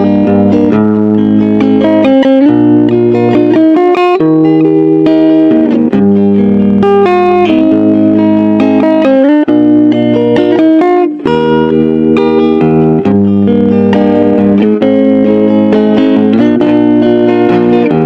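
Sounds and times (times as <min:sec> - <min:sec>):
plucked guitar melody: 0:00.0 - 0:18.0.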